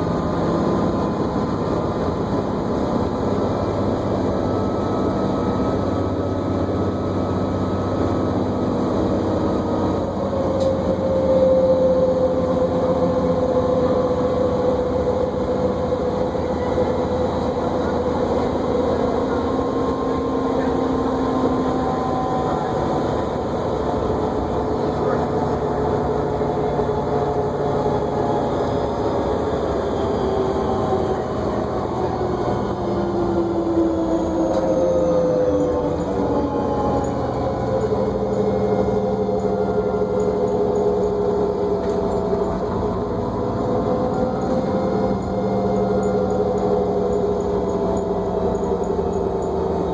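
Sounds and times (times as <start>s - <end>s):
bus engine and road noise: 0.0s - 49.9s.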